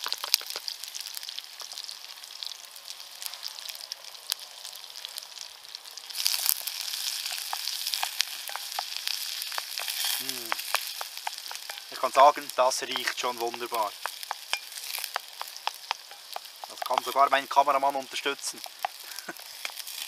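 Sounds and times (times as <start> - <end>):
onions frying in butter: 0.0 - 20.0.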